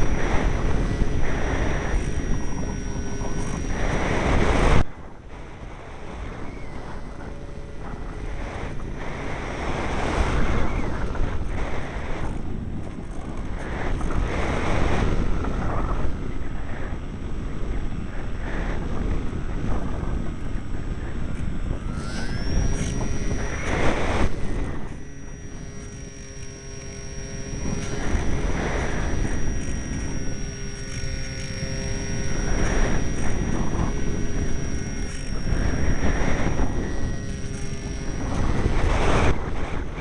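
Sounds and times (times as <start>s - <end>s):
faint high whine: 0.0s - 40.0s
strong wind buffeting microphone: 0.0s - 40.0s.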